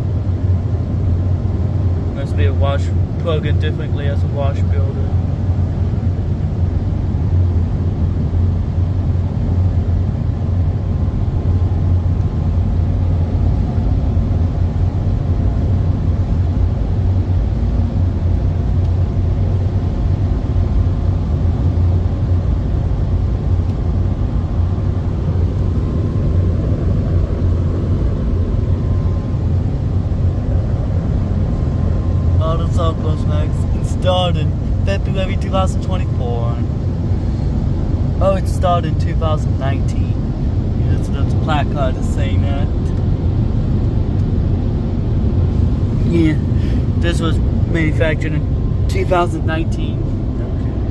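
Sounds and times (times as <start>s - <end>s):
car wash machinery rumbling: 0.0s - 50.9s.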